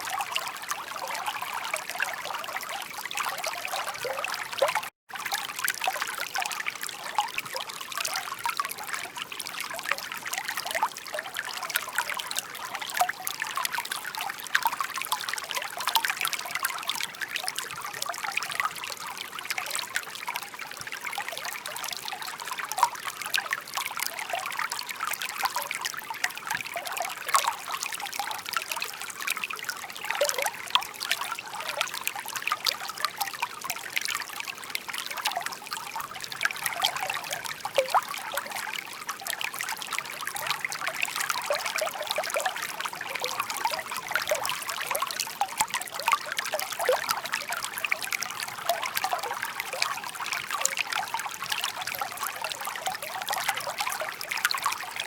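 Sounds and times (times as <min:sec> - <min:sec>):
babbling stream: 0:00.0 - 0:55.0.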